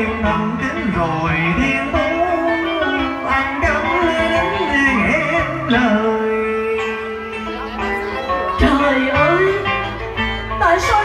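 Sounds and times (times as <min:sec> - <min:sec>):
live instrumental accompaniment: 0:00.0 - 0:11.0.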